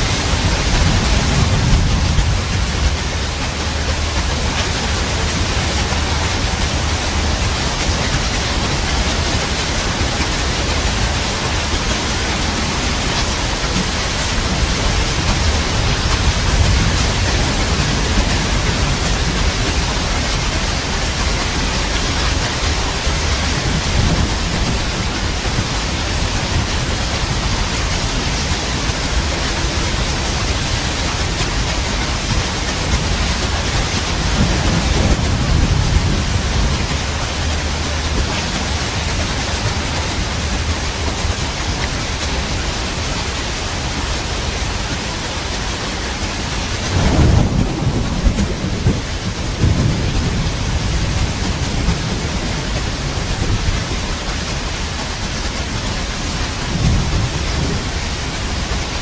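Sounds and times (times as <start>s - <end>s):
rolling thunder: 0.0s - 43.1s, 45.8s - 59.0s
heavy rain: 0.0s - 59.0s.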